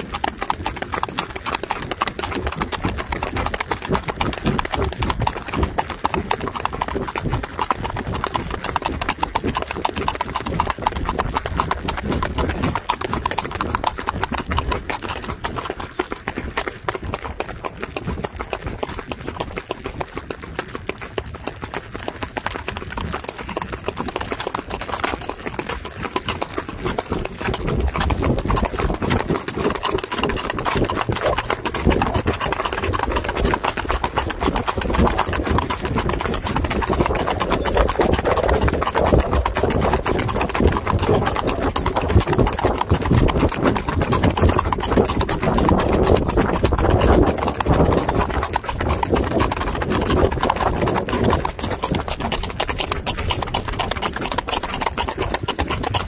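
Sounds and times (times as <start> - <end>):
horse hooves on asphalt: 0.0 - 56.0.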